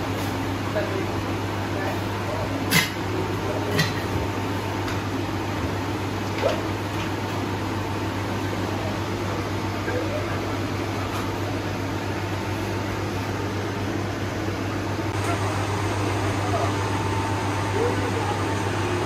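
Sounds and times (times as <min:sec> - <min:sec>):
machinery hum and fan noise: 0:00.0 - 0:19.0.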